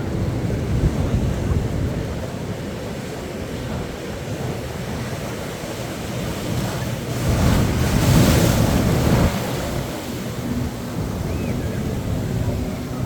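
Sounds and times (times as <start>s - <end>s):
waves washing onto beach: 0.0s - 13.0s.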